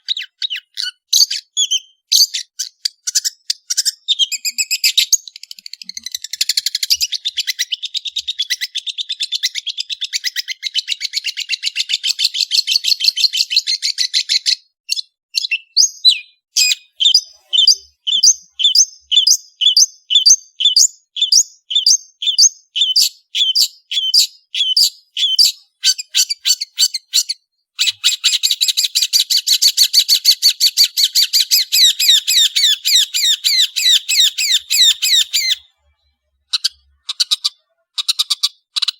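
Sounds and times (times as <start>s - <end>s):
bird singing chattering trill: 0.0s - 35.7s.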